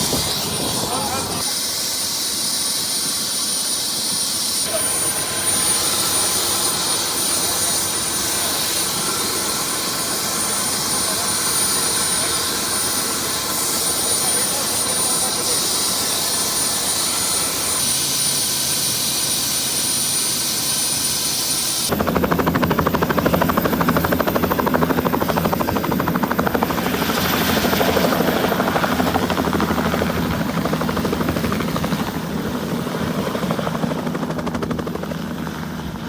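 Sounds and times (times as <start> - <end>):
helicopter engine whine: 0.0 - 36.0
helicopter rotor beat: 0.0 - 36.0.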